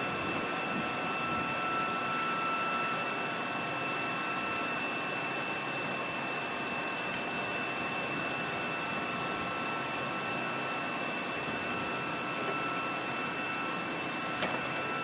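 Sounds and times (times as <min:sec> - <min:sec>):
turbine whine: 0:00.0 - 0:15.0.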